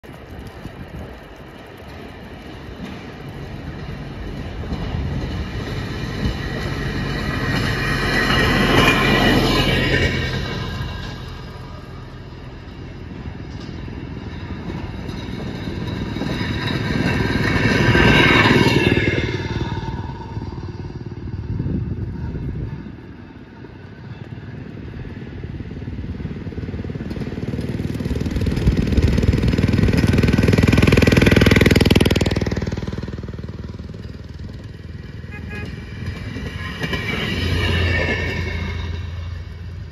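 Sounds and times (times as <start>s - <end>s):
rail motorcar engines passing: 0.0s - 39.9s.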